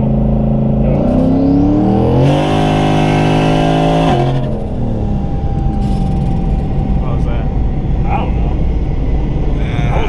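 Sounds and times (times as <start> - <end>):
car engine revving at full throttle: 0.0 - 10.0.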